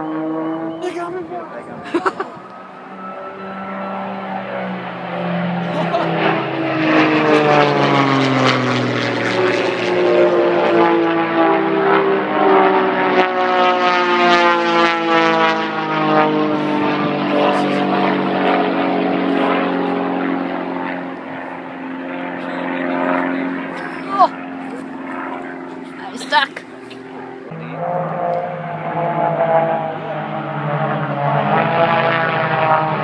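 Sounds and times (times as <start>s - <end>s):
propeller plane engine droning overhead: 0.0s - 33.0s.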